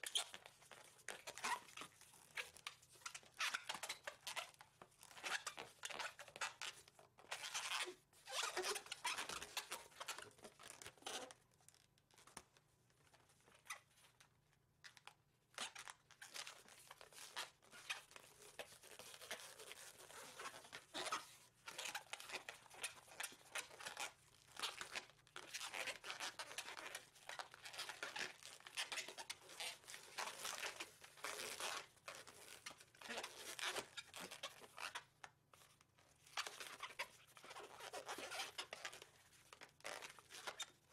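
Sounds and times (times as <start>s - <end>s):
balloon squeaking and rubbing: 0.0s - 11.3s, 15.5s - 35.1s, 36.2s - 40.8s.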